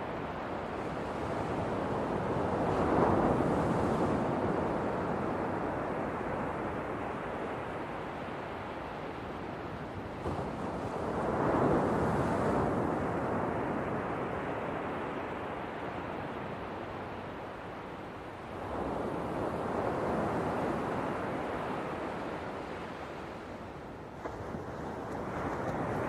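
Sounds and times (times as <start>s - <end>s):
ocean waves washing onto shore: 0.0s - 26.0s.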